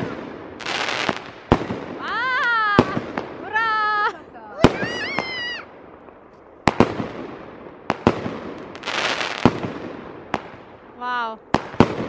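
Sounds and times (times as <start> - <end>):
fireworks bangs: 0.0 - 12.0
hissing crackle of fireworks: 0.0 - 12.0.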